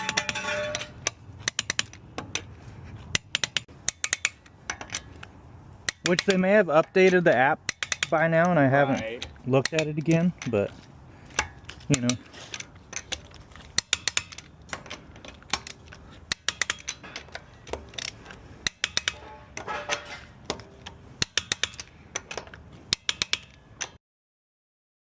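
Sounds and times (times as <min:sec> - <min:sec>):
metal parts clicking and clattering: 0:00.0 - 0:24.0.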